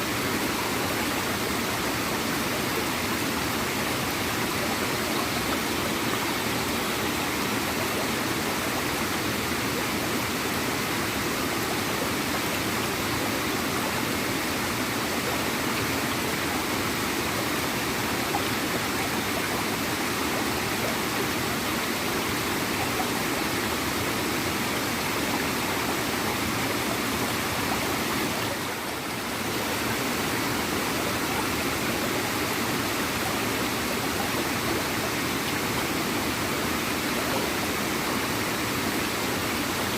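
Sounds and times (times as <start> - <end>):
small waterfall gurgling and splashing: 0.0 - 39.9.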